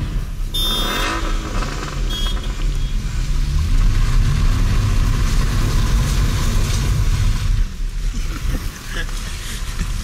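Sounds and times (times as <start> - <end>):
tyre noise on wet road: 0.0 - 10.0.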